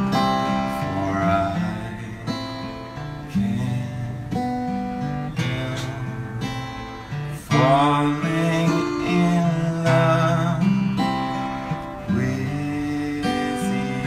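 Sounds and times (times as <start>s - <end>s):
acoustic guitar strumming: 0.0s - 14.0s
man singing: 0.1s - 14.0s.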